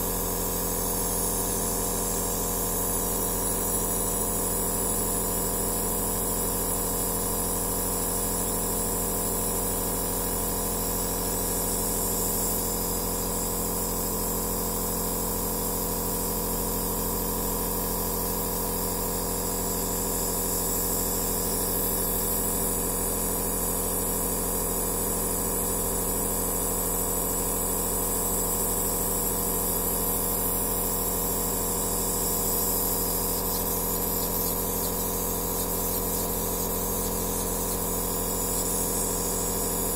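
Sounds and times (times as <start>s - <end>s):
nebulizer compressor motor hum: 0.0s - 39.9s.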